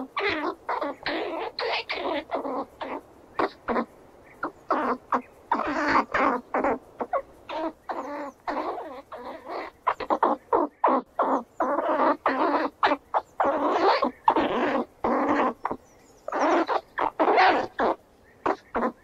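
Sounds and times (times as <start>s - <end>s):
squirrel chattering: 0.0s - 19.0s.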